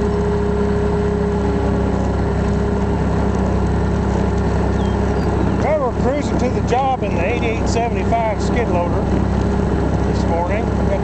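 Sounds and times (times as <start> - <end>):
loader engine idling: 0.0 - 11.0.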